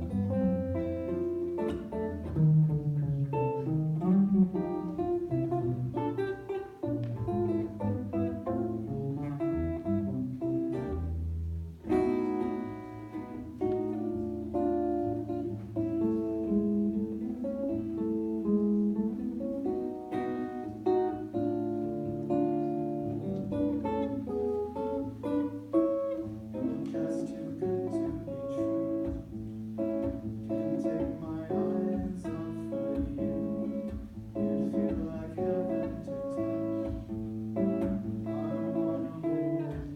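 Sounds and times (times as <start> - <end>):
instrumental solo jazz: 0.0 - 39.9.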